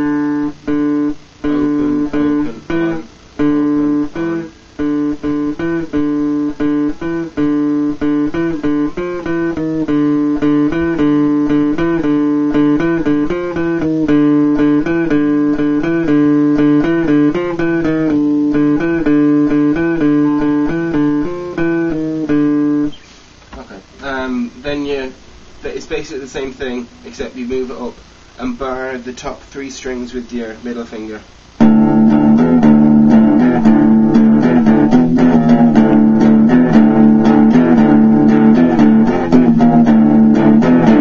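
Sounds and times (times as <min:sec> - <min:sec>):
electric guitar riff: 0:00.0 - 0:41.0.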